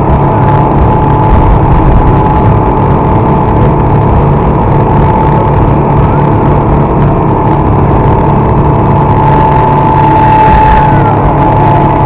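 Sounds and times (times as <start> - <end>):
outboard motors running: 0.0 - 12.0
water rushing: 0.0 - 12.0
wind buffeting microphone: 0.0 - 12.0.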